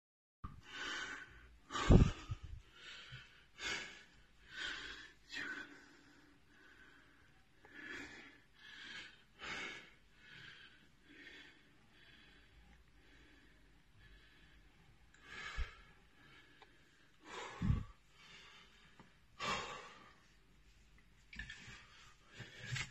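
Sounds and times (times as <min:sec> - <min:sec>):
man breathing hard: 0:00.6 - 0:20.4.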